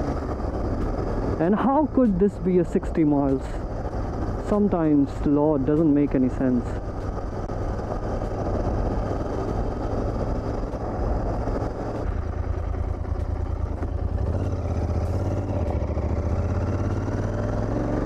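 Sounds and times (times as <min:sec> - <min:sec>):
motorcycle engine riding: 0:00.0 - 0:18.0.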